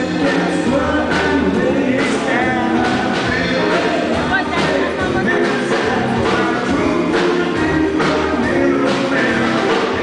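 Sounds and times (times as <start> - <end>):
drum kit: 0.0 - 10.0
electric guitar: 0.0 - 10.0
upright bass: 0.0 - 10.0.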